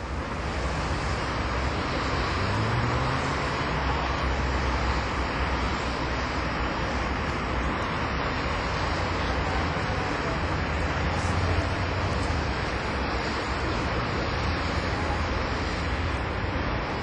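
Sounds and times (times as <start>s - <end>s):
vehicle rumble and hiss: 0.0s - 17.0s.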